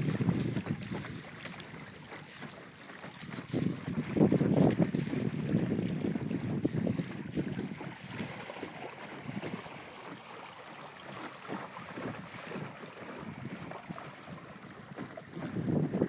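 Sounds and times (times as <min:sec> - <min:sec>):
wind buffeting microphone: 0:00.0 - 0:10.2, 0:11.0 - 0:16.0
water splashing along hull: 0:00.0 - 0:16.0.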